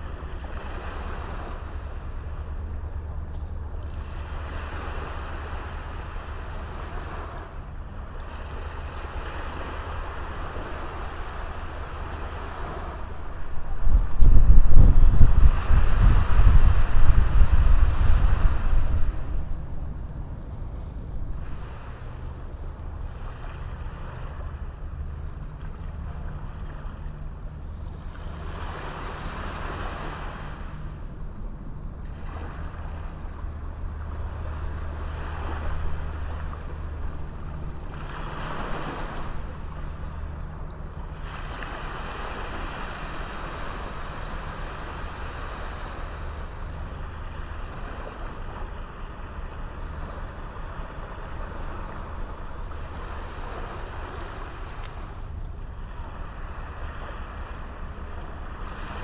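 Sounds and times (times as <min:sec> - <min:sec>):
low steady rumble: 0:00.0 - 0:59.0
small waves washing on beach: 0:00.0 - 0:59.0.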